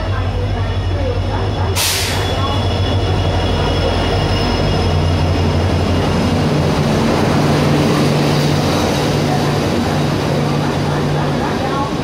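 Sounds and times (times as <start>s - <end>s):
diesel locomotive engine drone: 0.0s - 12.0s
train wheels on rails: 0.0s - 12.0s.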